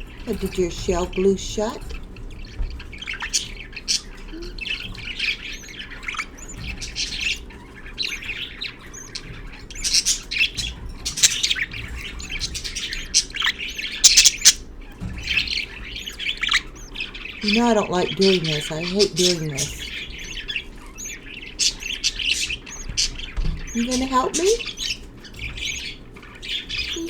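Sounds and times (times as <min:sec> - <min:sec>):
budgerigars chirping: 0:00.0 - 0:27.0.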